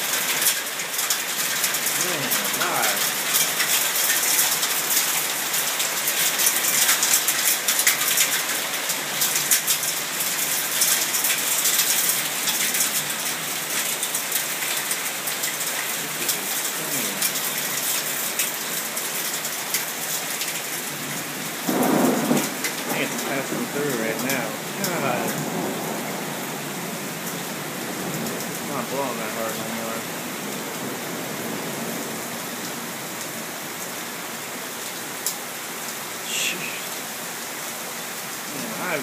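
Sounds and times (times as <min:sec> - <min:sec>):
heavy rain pouring and splashing: 0:00.0 - 0:39.0.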